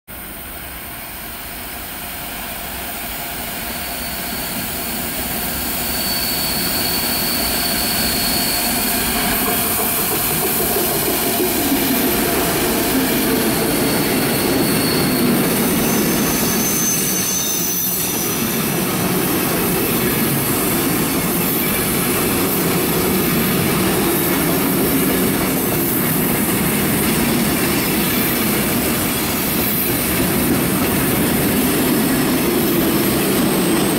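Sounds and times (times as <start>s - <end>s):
freight train passing: 0.1s - 33.9s
wheel squeal: 3.7s - 33.9s.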